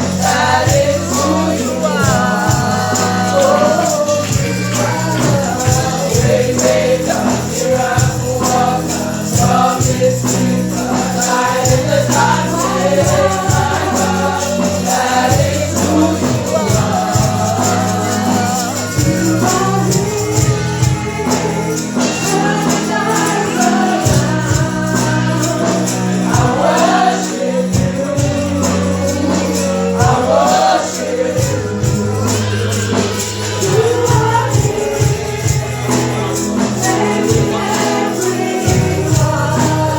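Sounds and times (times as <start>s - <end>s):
band with steady beat: 0.0s - 39.9s
voices singing gospel: 0.0s - 39.9s.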